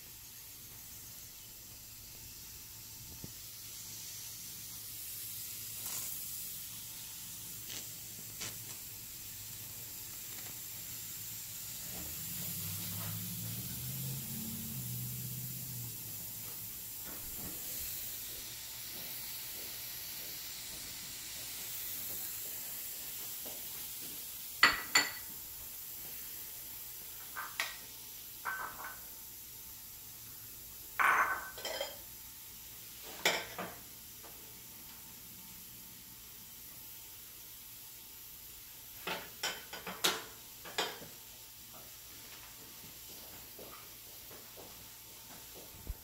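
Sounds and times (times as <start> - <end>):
waffle maker hissing and sizzling: 0.0 - 46.0.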